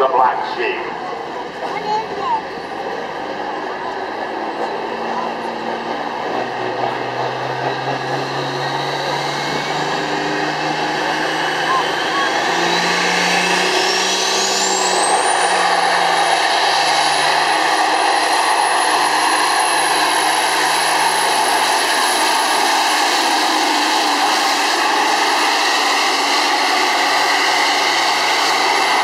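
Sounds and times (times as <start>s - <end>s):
high turbo whine: 0.0s - 29.0s
truck diesel engine at full throttle: 0.0s - 29.0s.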